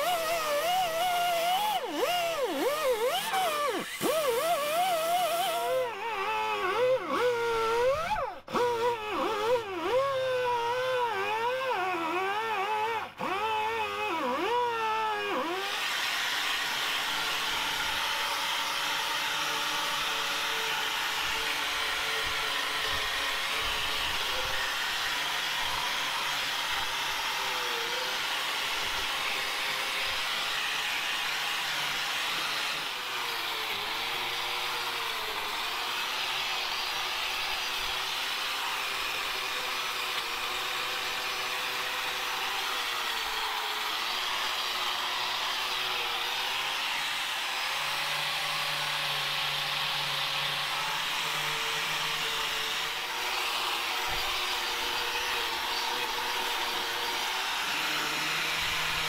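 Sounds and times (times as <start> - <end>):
air-powered wire brush whine: 0.0 - 59.0
angle grinder with wire brush: 0.0 - 59.0.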